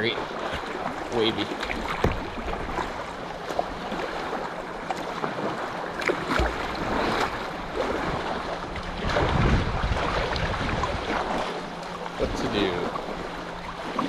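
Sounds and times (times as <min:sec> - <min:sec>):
waves slapping against kayak: 0:00.0 - 0:14.0.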